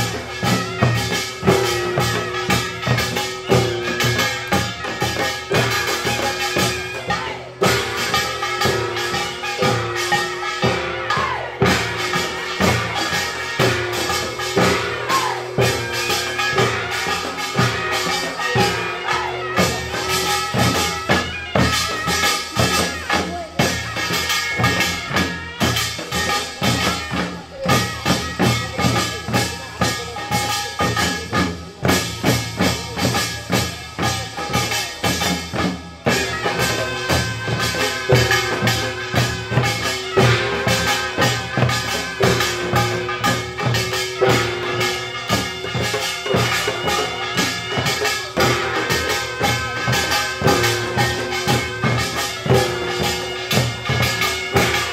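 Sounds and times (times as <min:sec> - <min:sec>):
gongs ringing: 0:00.0 - 0:29.0, 0:32.2 - 0:54.9
fast drumming: 0:00.0 - 0:54.9.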